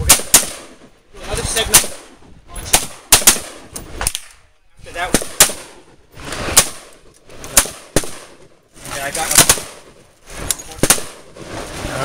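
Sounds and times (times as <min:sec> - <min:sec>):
rifle shots: 0:00.0 - 0:00.9, 0:01.5 - 0:04.4, 0:05.0 - 0:08.5, 0:09.1 - 0:11.6.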